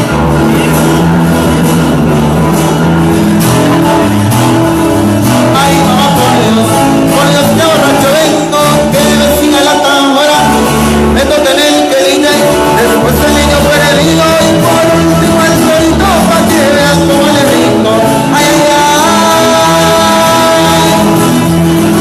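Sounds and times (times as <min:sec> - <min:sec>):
bending lead melody: 0:00.0 - 0:22.0
guitar: 0:00.0 - 0:22.0
steady bass line: 0:00.0 - 0:22.0.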